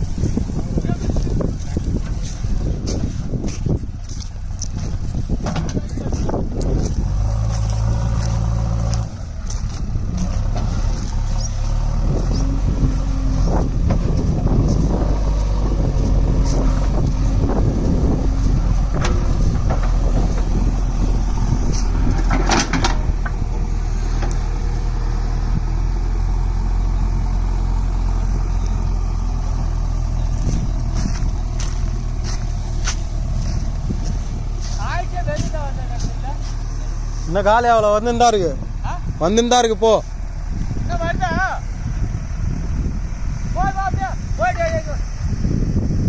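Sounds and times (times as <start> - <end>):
diesel engine under load: 0.0 - 46.0.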